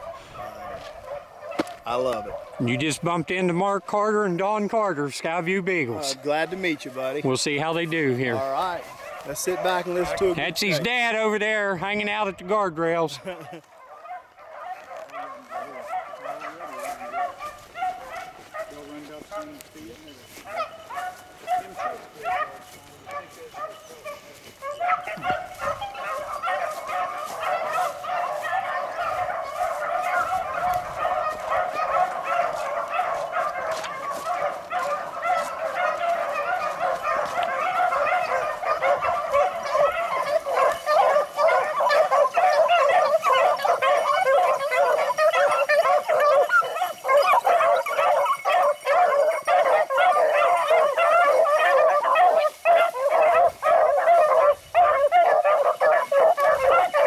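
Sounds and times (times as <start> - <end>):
pack of dogs baying: 0.0 - 57.0.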